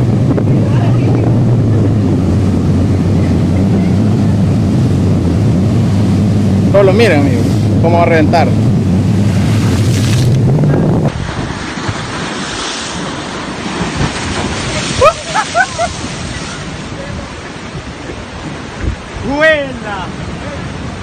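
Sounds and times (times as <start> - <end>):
waves breaking over rocks: 0.0 - 21.0
wind buffeting microphone: 0.0 - 21.0.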